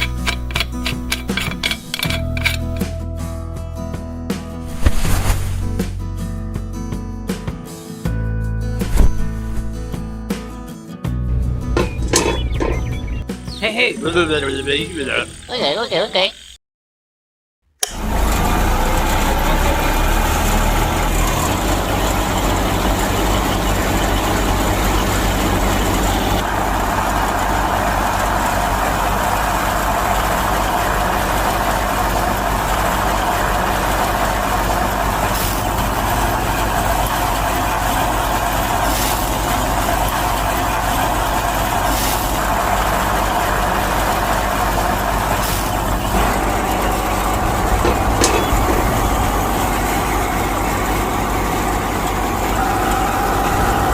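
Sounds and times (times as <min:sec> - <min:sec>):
thresher mechanical drone: 0:00.0 - 0:03.0, 0:11.2 - 0:13.2, 0:14.1 - 0:16.6, 0:17.8 - 0:53.9.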